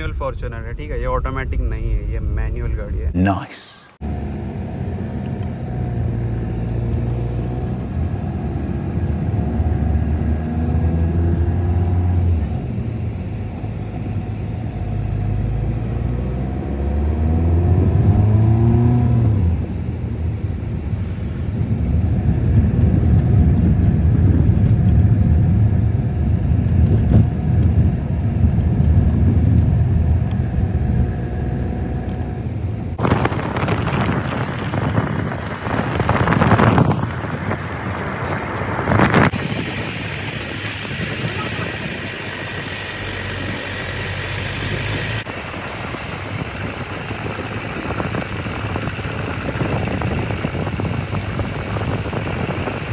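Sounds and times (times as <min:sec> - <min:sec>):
car engine and road noise: 0:04.0 - 0:52.9
wind noise on microphone: 0:04.9 - 0:52.9.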